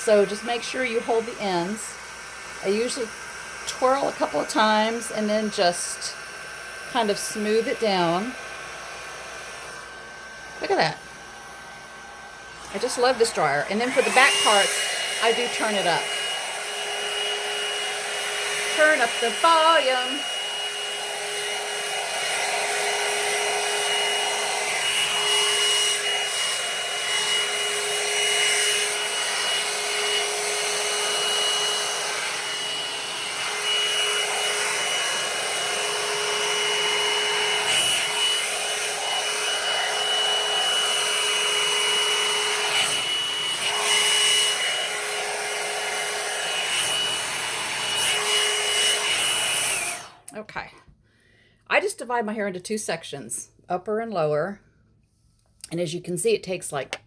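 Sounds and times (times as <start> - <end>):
hair dryer brush blowing: 0.0 - 50.3.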